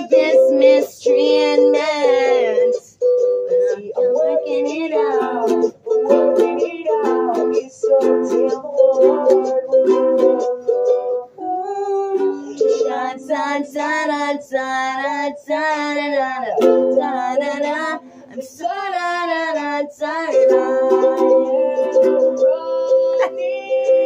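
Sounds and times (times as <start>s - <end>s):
strummed ukulele: 0.0s - 24.0s
woman singing: 0.0s - 24.0s.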